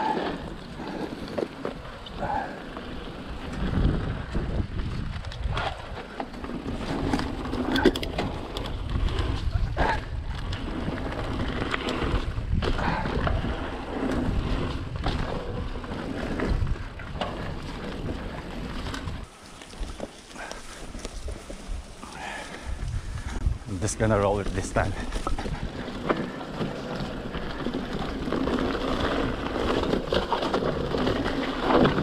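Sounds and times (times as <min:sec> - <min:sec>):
bike clicks and rattles: 0:00.0 - 0:32.0
wind rumbling on microphone: 0:00.0 - 0:32.0.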